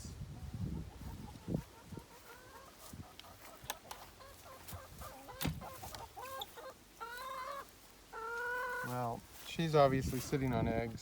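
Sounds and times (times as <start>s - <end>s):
hen clucking: 0.3s - 9.3s.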